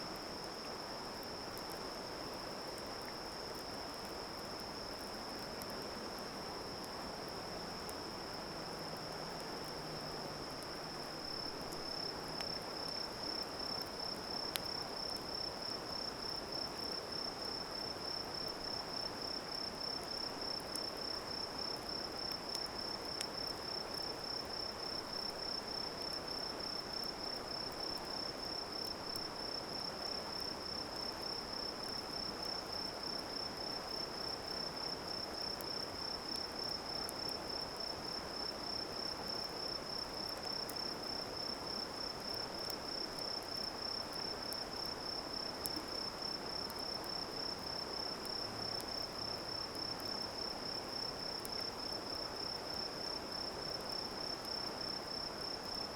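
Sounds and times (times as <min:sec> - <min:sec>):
campfire crackles: 0:00.1 - 0:55.9.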